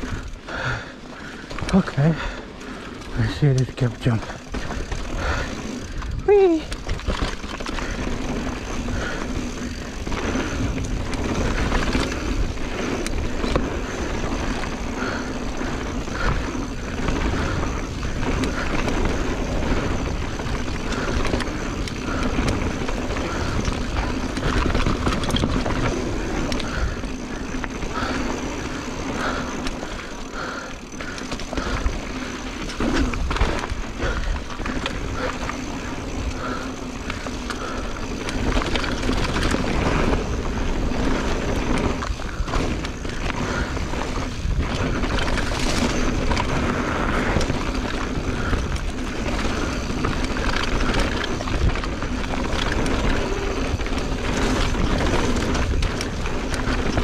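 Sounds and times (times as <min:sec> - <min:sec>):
bike knocking and rattling: 0:00.0 - 0:57.0
bike tyres rolling on dirt: 0:00.0 - 0:57.0.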